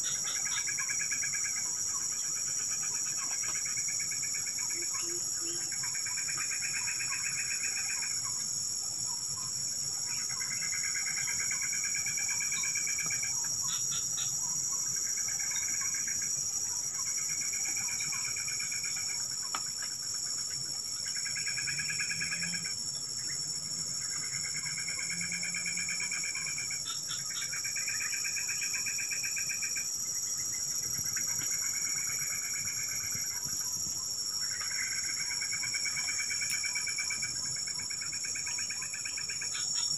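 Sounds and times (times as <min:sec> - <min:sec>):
insect pulsed trills: 0:00.0 - 0:39.9
insects high-pitched drone: 0:00.0 - 0:39.9.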